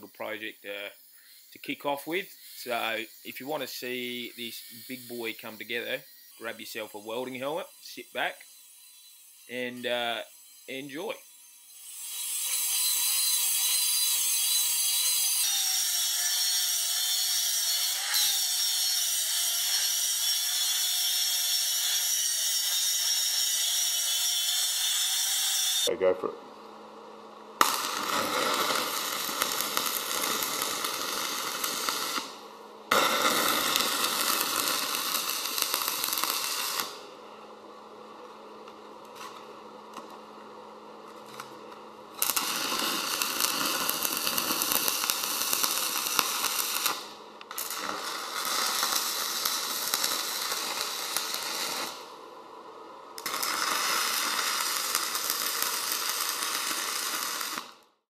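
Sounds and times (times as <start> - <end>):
arc welding crackle and sizzle: 0.0 - 58.0.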